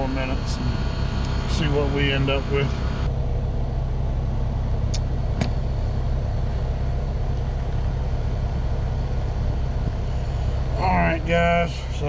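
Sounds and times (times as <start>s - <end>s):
air conditioning unit humming: 0.0s - 12.0s.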